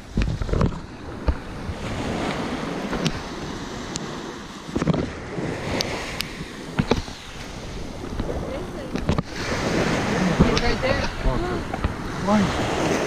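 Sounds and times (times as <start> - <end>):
small waves washing ashore: 0.0 - 13.0
wind on microphone: 0.0 - 13.0.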